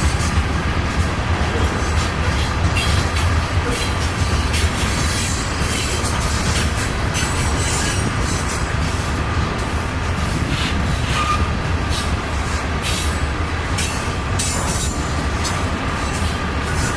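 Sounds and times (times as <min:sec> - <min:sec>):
freight train rumbling past: 0:00.0 - 0:16.9.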